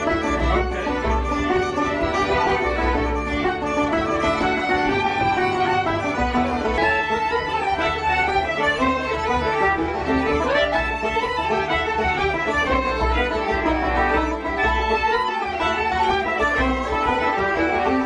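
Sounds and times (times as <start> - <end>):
folk dance tune on acoustic instruments: 0.0 - 18.0.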